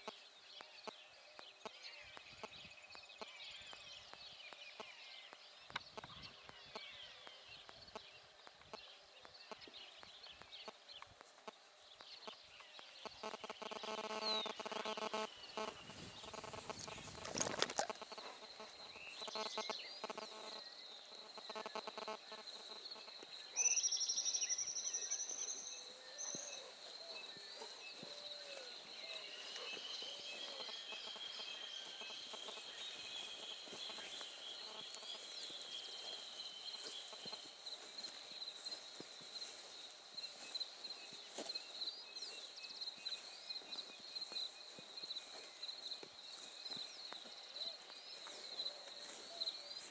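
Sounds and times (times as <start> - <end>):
birds calling and singing: 0.0 - 49.9.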